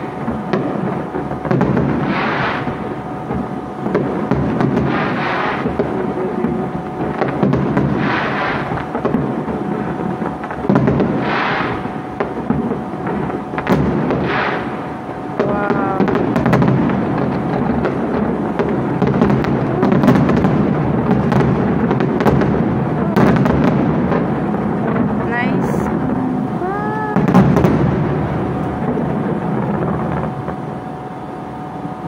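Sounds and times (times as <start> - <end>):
rapid firework bangs: 0.0 - 30.8
fireworks bursting with crackle: 0.0 - 32.0.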